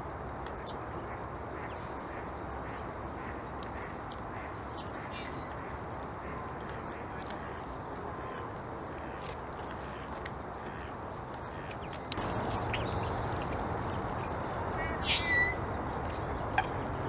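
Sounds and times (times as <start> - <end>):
outdoor background noise: 0.0 - 17.0
bird calls: 0.6 - 17.0.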